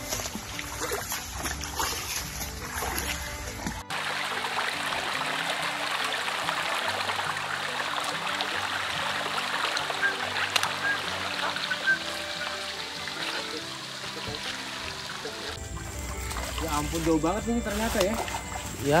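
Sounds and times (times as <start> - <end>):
music of held low notes: 0.0 - 19.0
stream rushing water: 0.0 - 19.0.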